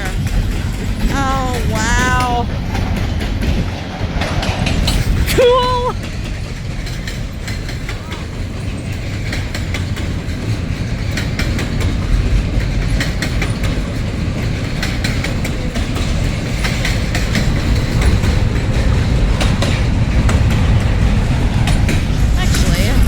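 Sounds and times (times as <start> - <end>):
freight train rumbling: 0.0 - 23.0
wheels clicking on rails: 0.0 - 23.0.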